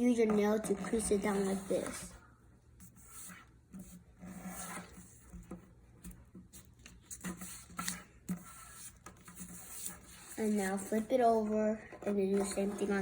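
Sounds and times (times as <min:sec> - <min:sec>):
fingernail scraping paper fold: 0:00.2 - 0:02.2, 0:02.8 - 0:13.0.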